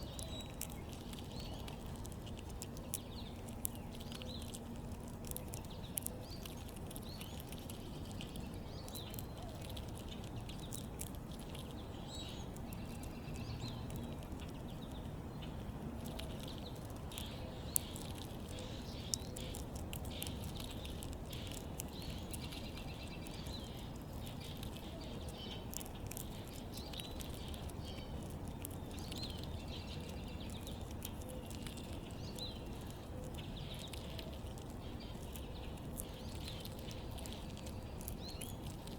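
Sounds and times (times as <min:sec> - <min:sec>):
low background noise: 0:00.0 - 0:38.9
small birds chirping: 0:00.0 - 0:38.9.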